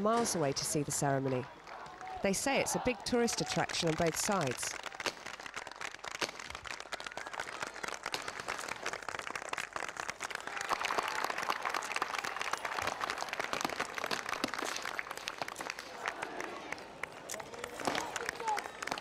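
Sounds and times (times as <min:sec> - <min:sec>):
crowd clapping: 0:01.2 - 0:19.0.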